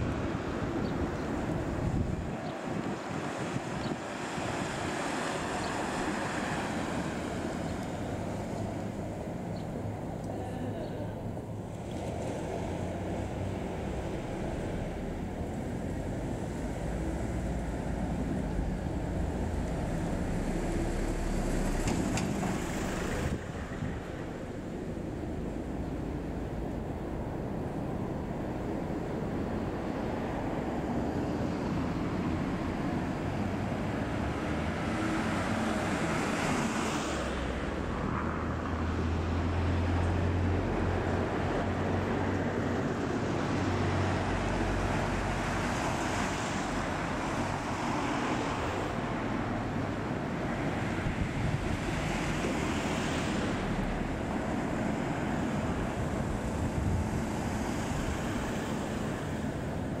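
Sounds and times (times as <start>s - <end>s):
wind on microphone: 0.0s - 10.1s, 10.8s - 38.6s, 40.5s - 60.0s
cars passing: 0.0s - 60.0s.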